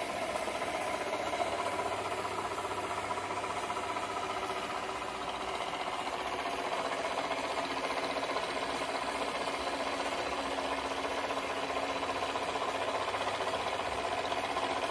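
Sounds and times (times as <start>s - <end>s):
model steam engine running: 0.0s - 14.9s.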